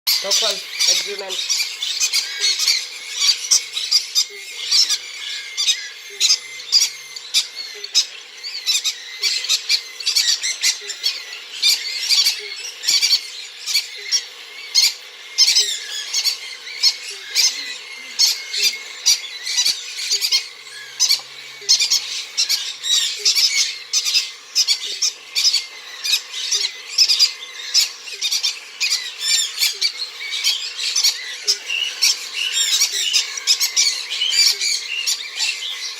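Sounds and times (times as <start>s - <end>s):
chicks giving raspy begging calls: 0.1s - 35.9s.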